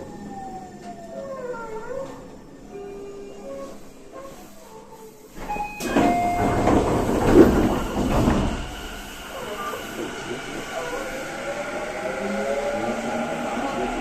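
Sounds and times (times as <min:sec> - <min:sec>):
train doors sliding open: 0:00.0 - 0:14.0.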